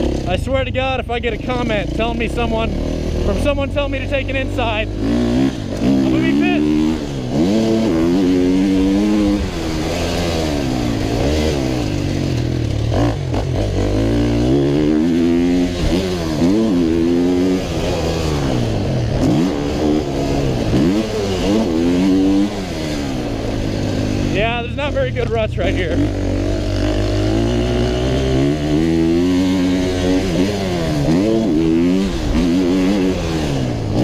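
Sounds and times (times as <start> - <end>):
motocross bike engine revving: 0.0 - 34.0.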